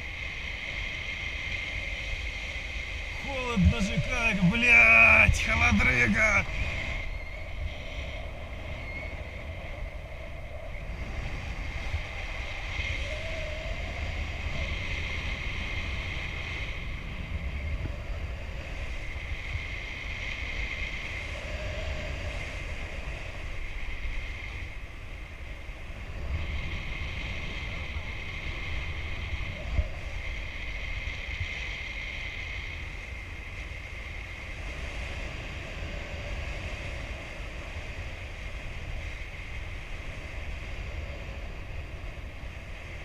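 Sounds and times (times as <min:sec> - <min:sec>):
faint high whine: 0:00.0 - 0:43.0
wind buffeting microphone: 0:00.0 - 0:43.0.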